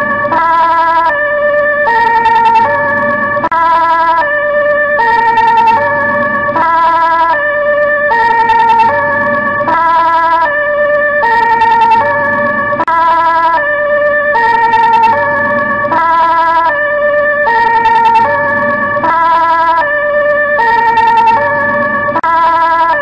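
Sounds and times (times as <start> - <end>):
two-tone ambulance siren: 0.0 - 23.0.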